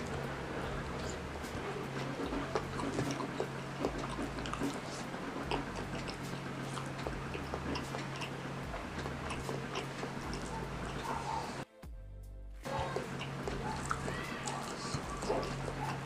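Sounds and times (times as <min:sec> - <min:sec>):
mouth chewing food: 0:00.0 - 0:11.6, 0:12.6 - 0:16.0
low steady hum: 0:00.0 - 0:16.0.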